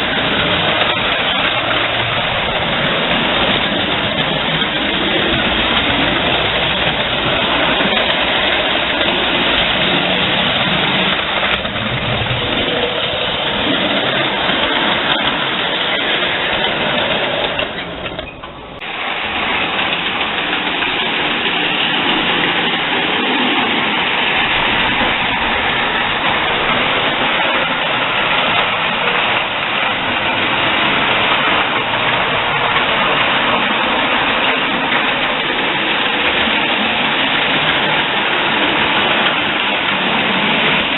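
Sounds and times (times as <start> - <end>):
toy train running on track: 0.0 - 40.9.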